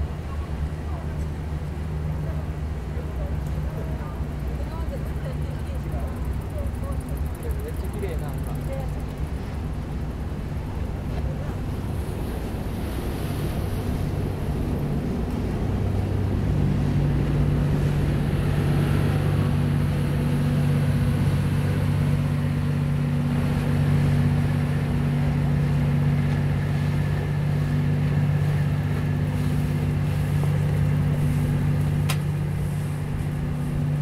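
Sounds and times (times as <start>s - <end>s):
low engine hum: 0.0s - 34.0s.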